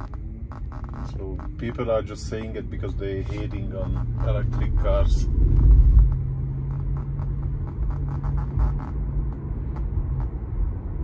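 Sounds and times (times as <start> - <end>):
road and tyre rumble: 0.0 - 11.0
steady low hum: 0.0 - 11.0.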